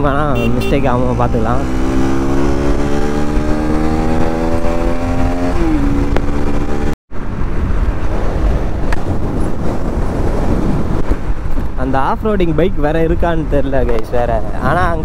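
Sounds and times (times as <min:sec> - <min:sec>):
road noise: 0:00.0 - 0:15.0
wind rush: 0:01.0 - 0:15.0.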